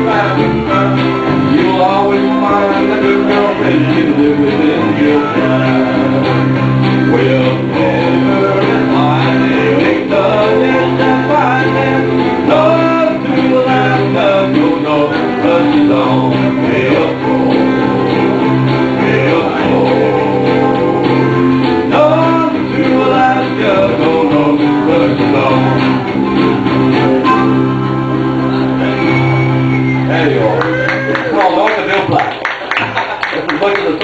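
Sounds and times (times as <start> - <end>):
man singing: 0.0 - 27.6
steady bass line: 0.0 - 30.9
guitar playing: 0.0 - 33.2.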